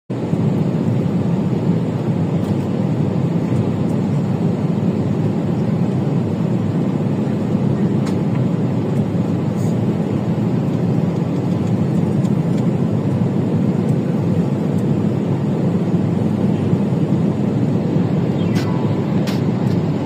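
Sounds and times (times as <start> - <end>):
vehicle rumble: 0.2 - 20.0.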